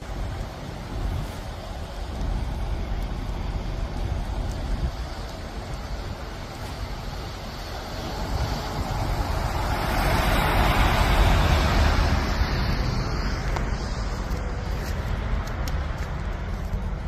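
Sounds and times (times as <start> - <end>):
road traffic noise: 0.0 - 17.0
wind rumbling on microphone: 0.0 - 17.0.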